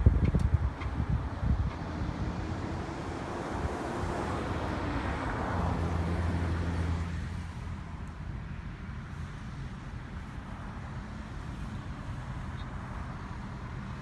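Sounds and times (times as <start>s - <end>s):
tyre and road noise: 0.0s - 14.0s.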